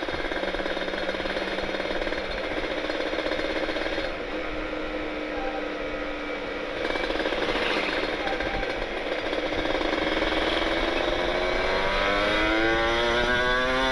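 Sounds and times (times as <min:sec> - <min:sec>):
two-stroke motorcycle exhaust: 0:00.0 - 0:13.9.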